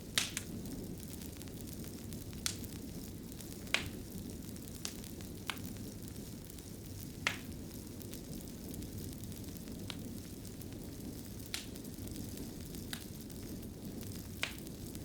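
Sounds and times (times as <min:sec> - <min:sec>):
fire popping: 0:00.0 - 0:15.0
fireplace fire crackling: 0:00.0 - 0:15.0.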